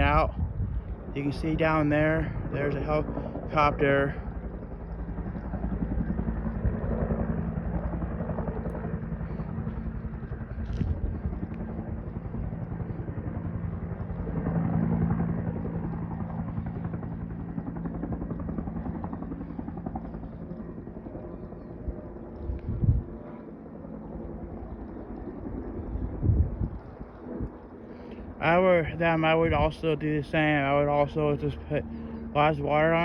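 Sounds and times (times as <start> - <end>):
helicopter rotor chop: 0.0 - 33.0.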